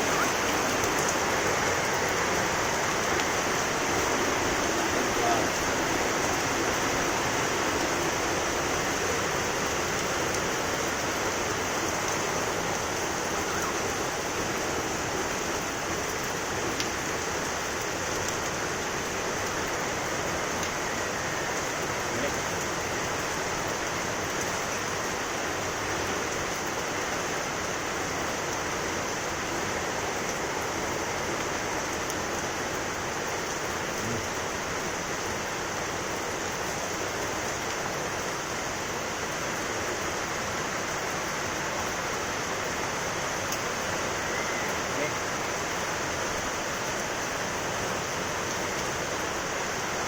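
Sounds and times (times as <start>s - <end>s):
steady rainfall: 0.0s - 50.0s.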